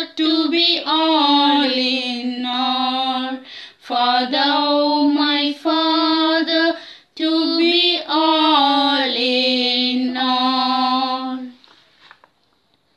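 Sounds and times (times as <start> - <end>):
woman singing religious song: 0.0 - 11.8.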